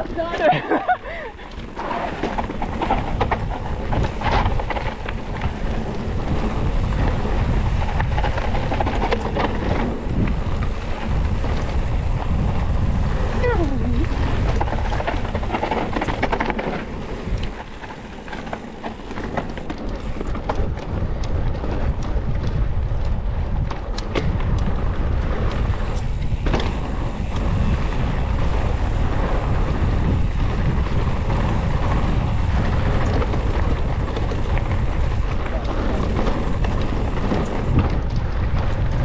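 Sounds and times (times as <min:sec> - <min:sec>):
bicycle tyre noise: 0:00.0 - 0:39.0
bike rattling clicks and knocks: 0:00.0 - 0:39.0
wind buffeting microphone: 0:00.0 - 0:39.0.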